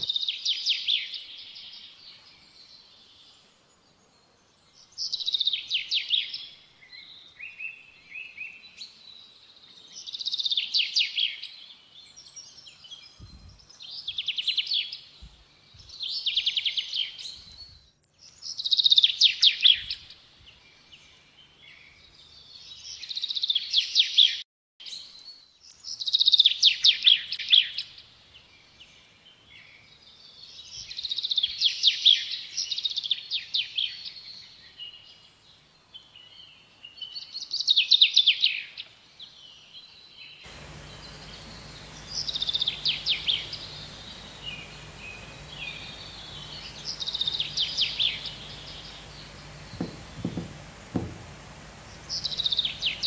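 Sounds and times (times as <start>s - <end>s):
songbird singing trills: 0.0s - 53.0s.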